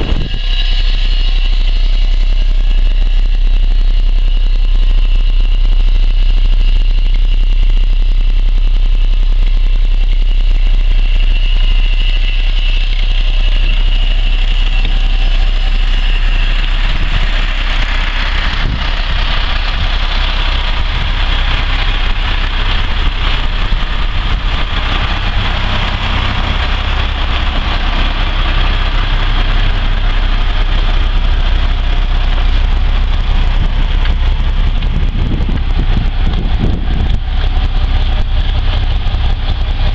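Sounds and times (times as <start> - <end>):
diesel bus engine idling: 0.0 - 39.9.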